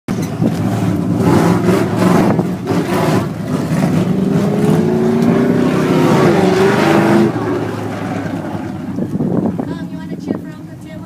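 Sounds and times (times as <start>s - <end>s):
stock car engines racing: 0.1s - 11.0s.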